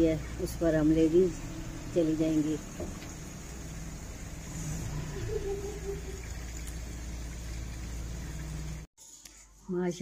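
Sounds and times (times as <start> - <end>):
car engine running: 0.0 - 8.9.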